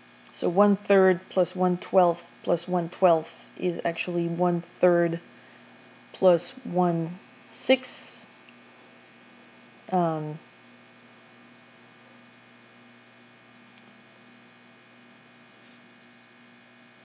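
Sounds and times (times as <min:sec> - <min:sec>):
faint electrical hum and hiss: 0:00.0 - 0:17.0.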